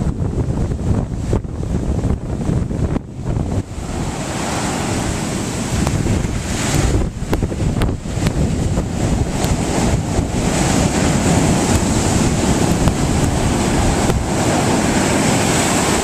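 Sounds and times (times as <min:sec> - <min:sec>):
wind buffeting microphone: 0:00.0 - 0:16.0
ocean surf breaking on sand: 0:00.1 - 0:16.0.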